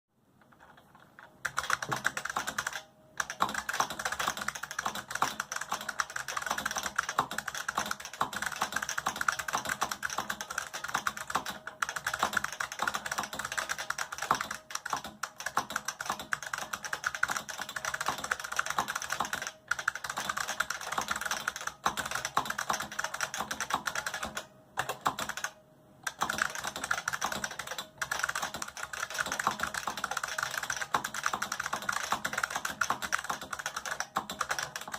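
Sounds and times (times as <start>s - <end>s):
keyboard typing clicks: 0.4s - 34.9s.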